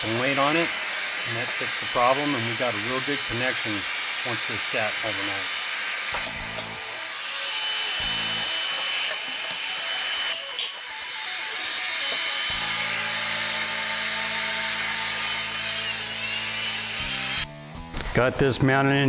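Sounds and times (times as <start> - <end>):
heat gun blowing: 0.0 - 17.5.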